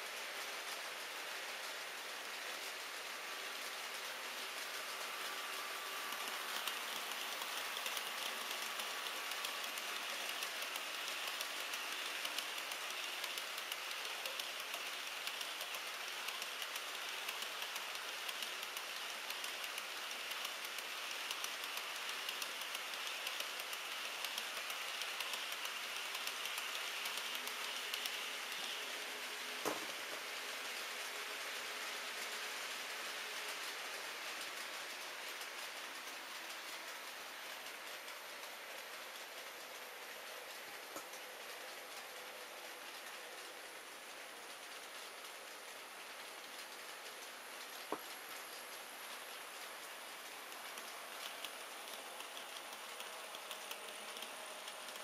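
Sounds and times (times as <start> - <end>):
faint motor hum: 0.0 - 55.0
model train wheels clicking on rails: 0.0 - 55.0.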